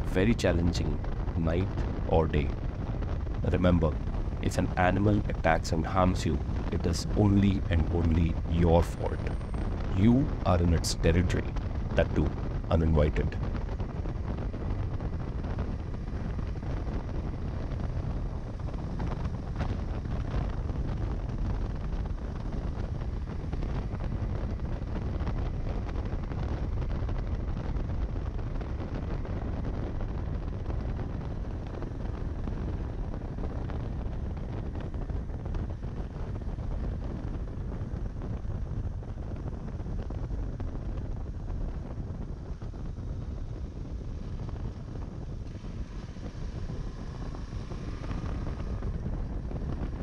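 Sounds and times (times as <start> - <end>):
motorcycle engine rumble: 0.0 - 50.0
wind rushing on microphone: 0.0 - 50.0.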